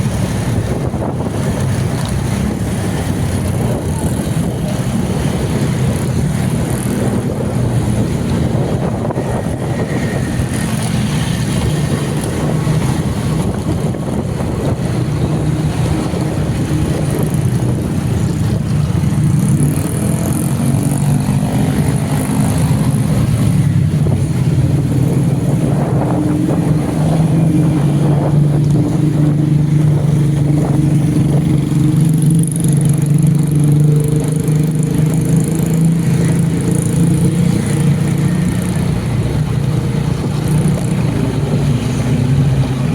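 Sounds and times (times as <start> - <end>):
road and wind noise: 0.0 - 42.9
vehicle engine running: 0.0 - 42.9.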